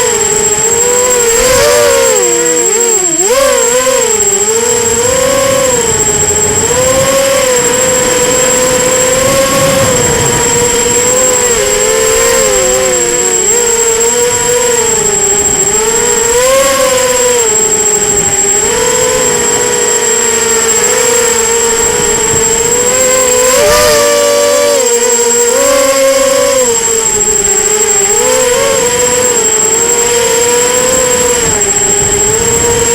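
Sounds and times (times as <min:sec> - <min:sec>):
high-pitched whine: 0:00.0 - 0:32.9
quadcopter motors buzzing: 0:00.0 - 0:32.9.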